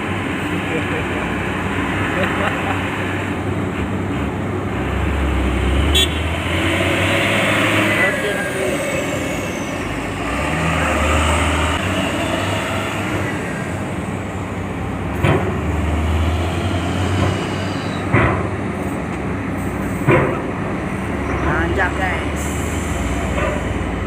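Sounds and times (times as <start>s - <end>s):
vehicle engines rumbling: 0.0s - 24.0s.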